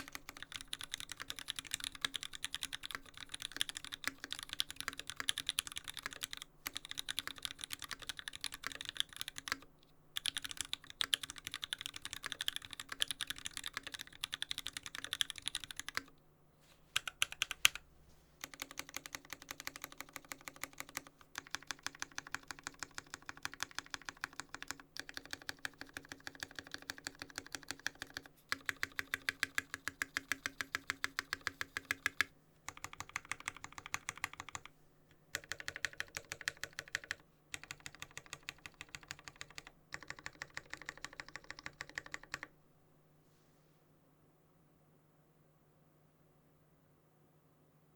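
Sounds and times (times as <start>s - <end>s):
fast typing on mechanical keyboard: 0.0s - 16.1s, 17.0s - 17.8s, 18.4s - 34.7s, 35.3s - 42.5s.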